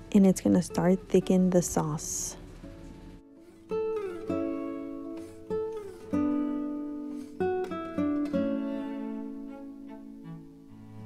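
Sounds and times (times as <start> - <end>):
acoustic guitar plucking: 0.0 - 11.0.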